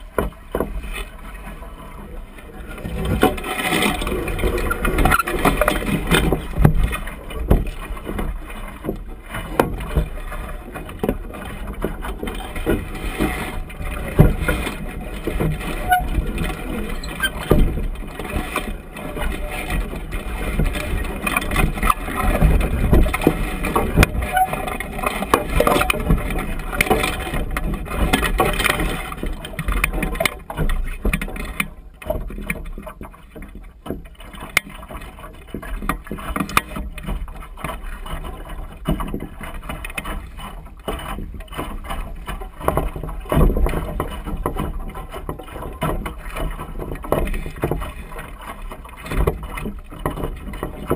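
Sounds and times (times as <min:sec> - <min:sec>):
water splashing against hull: 0:00.0 - 0:50.9
wind rumble on microphone: 0:00.0 - 0:50.9.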